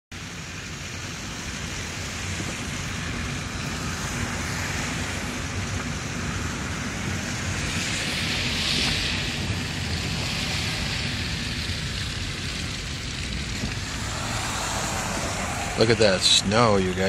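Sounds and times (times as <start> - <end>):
car driving on snowy road: 0.2 - 17.0.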